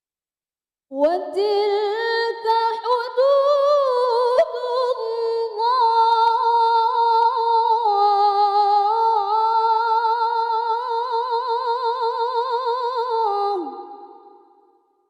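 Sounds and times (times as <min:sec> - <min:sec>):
woman reciting melodically: 0:00.9 - 0:14.3.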